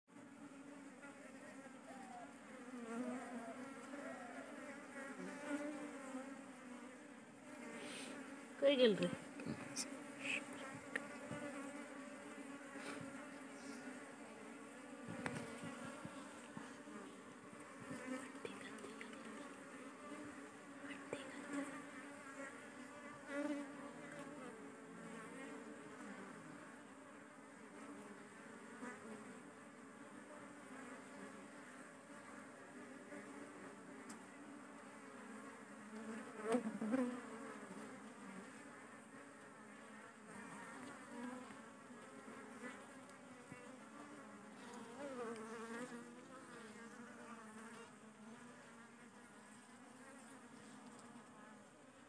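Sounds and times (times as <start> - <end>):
honeybees buzzing: 0.1 - 52.0
single bee buzzing close by: 0.1 - 52.0.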